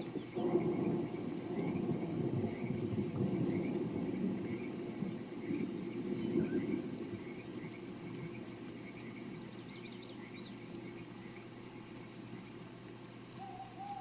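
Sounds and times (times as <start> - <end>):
rain hiss: 0.0 - 14.0
small birds chirping: 0.0 - 14.0.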